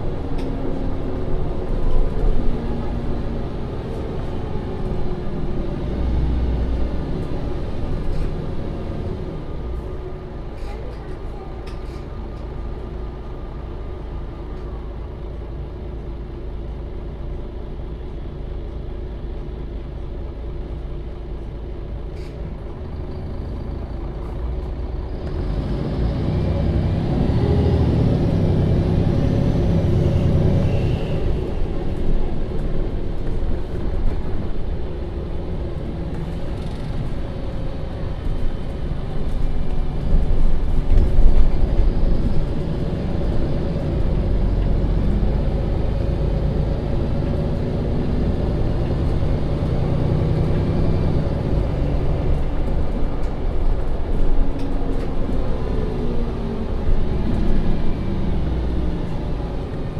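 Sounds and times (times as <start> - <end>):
bus engine hum: 0.0 - 59.9.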